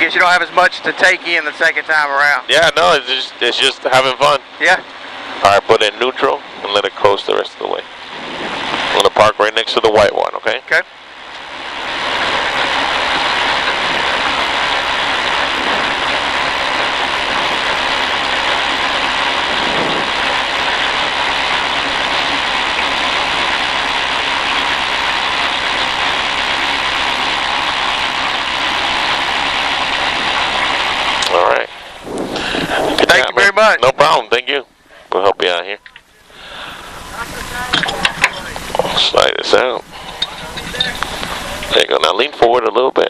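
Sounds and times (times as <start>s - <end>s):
car running noise rolling: 0.0s - 43.0s.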